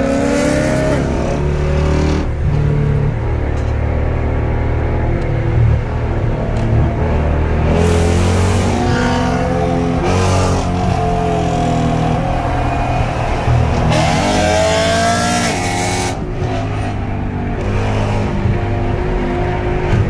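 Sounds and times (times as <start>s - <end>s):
car engine revving and accelerating: 0.0s - 20.0s.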